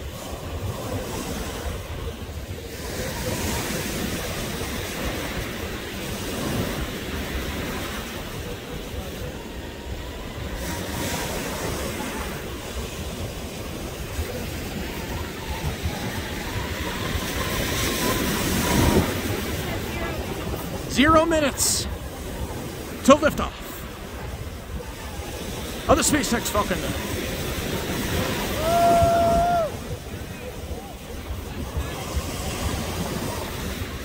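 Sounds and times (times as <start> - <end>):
wind rumbling on microphone: 0.0 - 21.2, 21.8 - 23.0, 23.6 - 25.9, 26.7 - 34.0
ocean surf breaking: 0.0 - 34.0.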